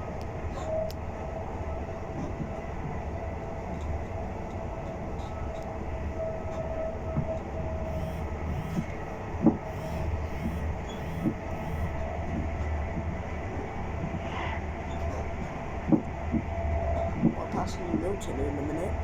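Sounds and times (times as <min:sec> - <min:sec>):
train running low rumble: 0:00.0 - 0:19.0
train whine: 0:00.0 - 0:19.0.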